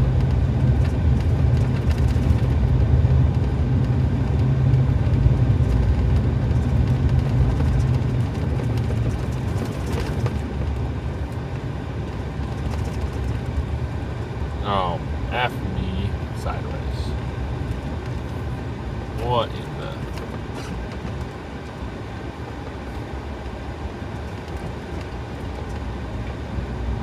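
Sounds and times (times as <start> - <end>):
truck engine and road rumble: 0.0 - 27.0.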